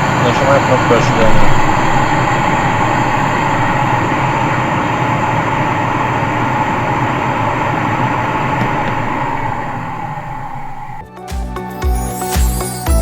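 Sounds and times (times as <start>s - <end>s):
blower whooshing air: 0.0s - 11.1s.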